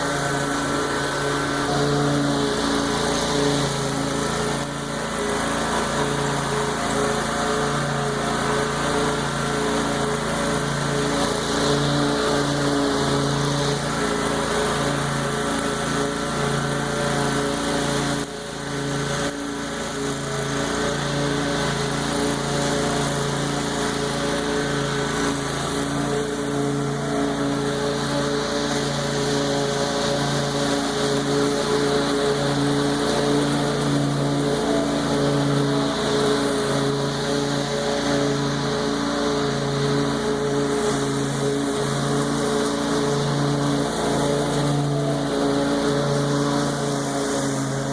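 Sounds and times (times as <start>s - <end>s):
lawn mower cutting grass: 0.0s - 47.9s.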